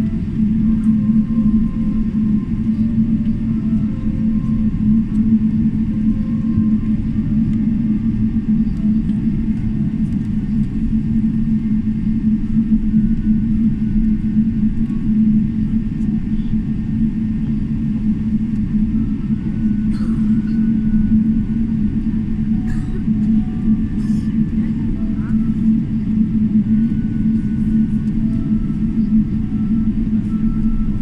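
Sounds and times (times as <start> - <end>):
aircraft cabin rumble: 0.0 - 31.0
constant hum: 0.0 - 31.0.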